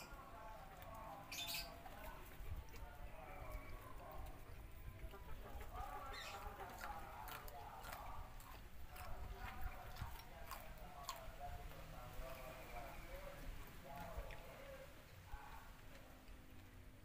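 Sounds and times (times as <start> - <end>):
chickens clucking: 0.0 - 14.8
chewing and crunching: 0.1 - 17.0.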